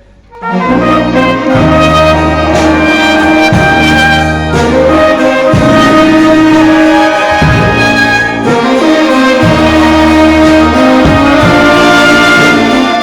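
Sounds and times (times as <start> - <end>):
bass line: 0.0 - 13.0
held brass notes: 0.0 - 13.0
band playing instrumental: 0.2 - 13.0
drum hits: 0.9 - 13.0.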